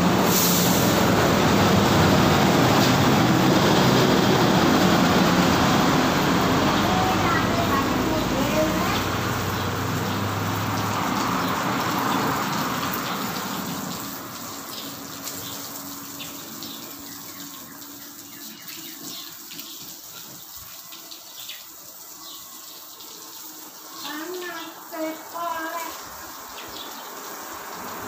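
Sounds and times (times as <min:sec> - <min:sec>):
hose water splashing on concrete: 0:00.0 - 0:28.0.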